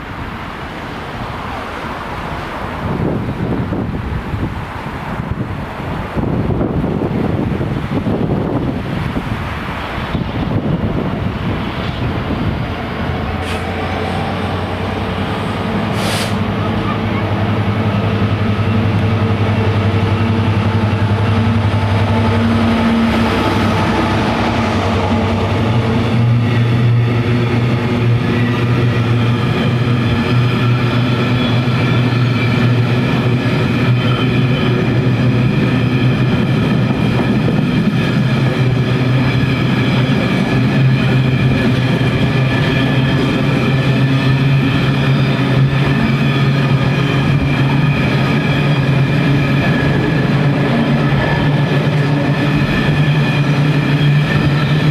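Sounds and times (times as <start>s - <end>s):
diesel locomotive engine running: 0.0s - 54.9s.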